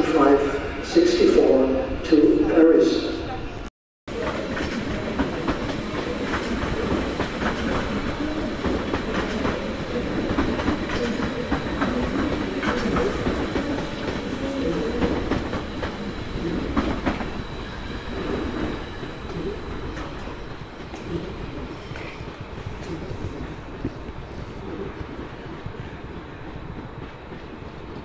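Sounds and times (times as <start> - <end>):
train wheels clattering on rails: 4.1 - 28.0.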